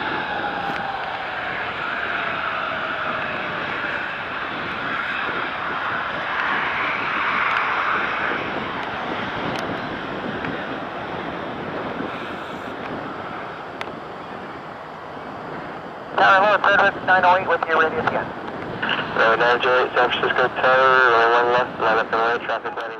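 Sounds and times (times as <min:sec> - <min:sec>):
jet engines roaring: 0:00.0 - 0:22.9.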